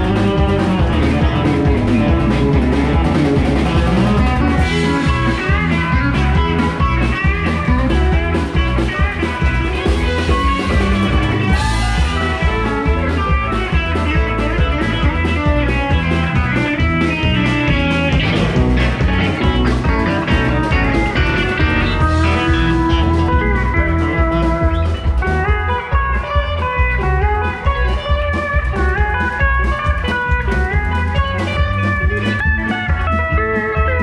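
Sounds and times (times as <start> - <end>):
guitar: 0.0 - 34.0
live country band playing: 0.0 - 34.0.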